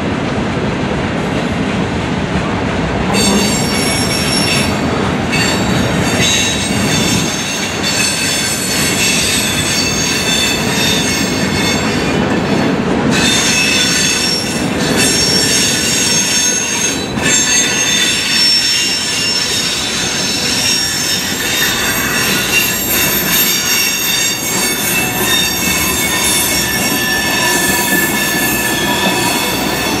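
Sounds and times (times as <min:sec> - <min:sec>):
train cars rolling past: 0:00.0 - 0:30.0
high-pitched wheel squeal: 0:03.2 - 0:12.5, 0:13.2 - 0:30.0.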